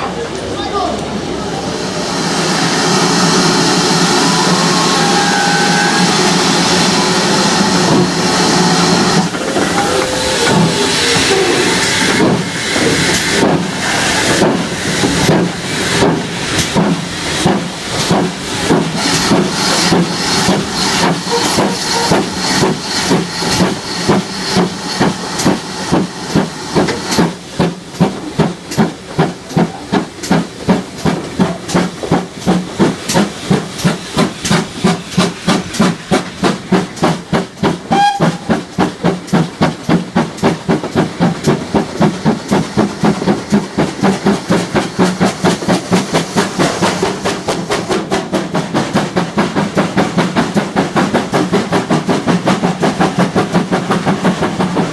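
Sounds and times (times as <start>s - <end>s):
steam locomotive exhaust beats: 1.0s - 54.9s
steam hiss: 1.6s - 54.9s.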